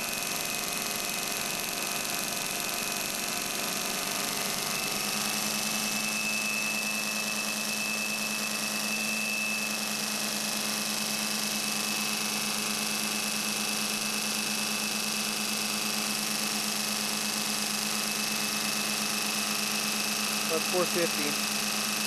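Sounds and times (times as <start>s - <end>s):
machine hum with hiss: 0.0s - 22.0s.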